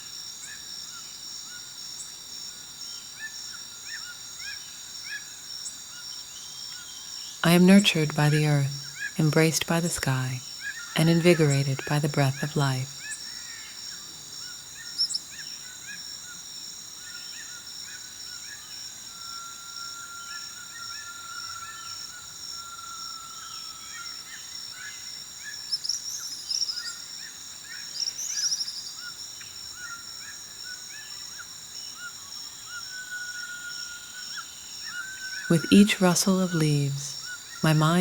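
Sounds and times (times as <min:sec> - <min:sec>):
high insect chorus: 0:00.0 - 0:09.2, 0:12.8 - 0:35.5.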